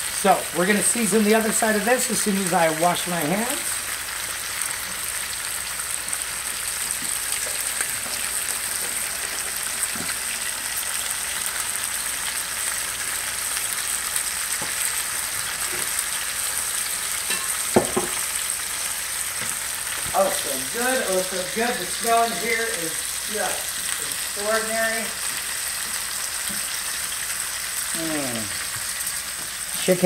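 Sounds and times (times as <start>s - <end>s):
meat sizzling in a pan: 0.0s - 30.0s.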